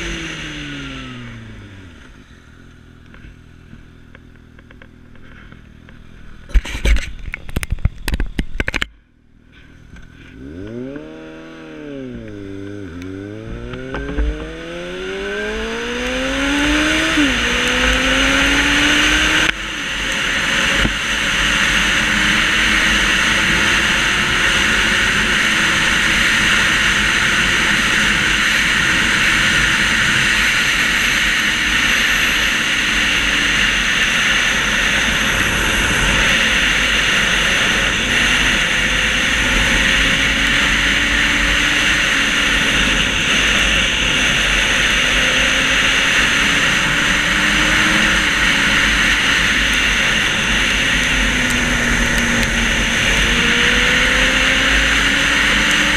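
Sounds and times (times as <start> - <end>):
motorcycle engine hum: 0.0 - 55.9.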